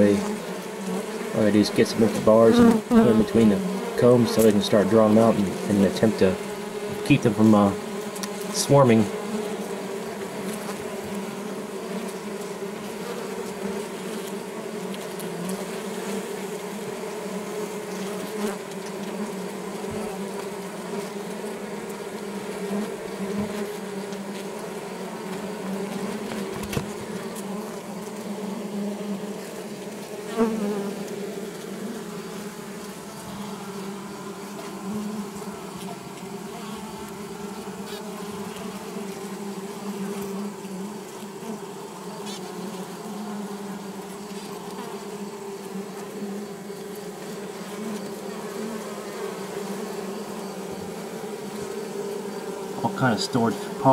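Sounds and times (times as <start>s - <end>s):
honeybees buzzing: 0.0s - 53.9s.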